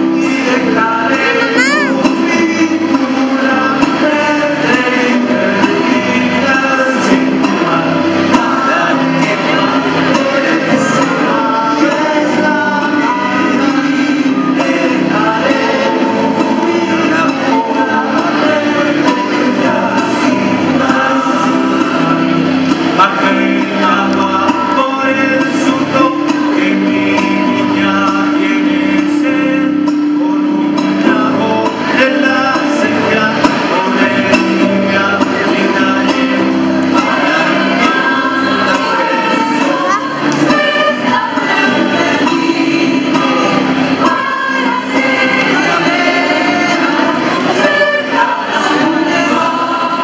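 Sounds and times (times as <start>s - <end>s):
mixed choir singing: 0.0s - 50.0s.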